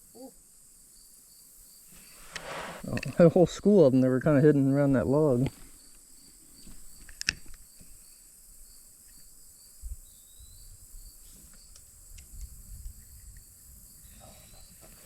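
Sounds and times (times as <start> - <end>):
faint creekside ambience: 0.0 - 15.0
insects chirping chorus: 0.0 - 15.0.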